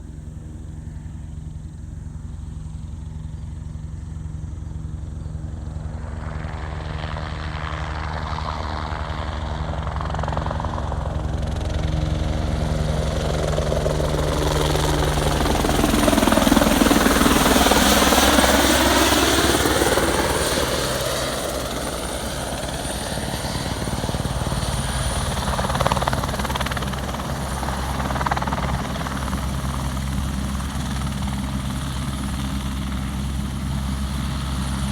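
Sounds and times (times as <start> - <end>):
helicopter rotor and engine drone: 0.0 - 34.9.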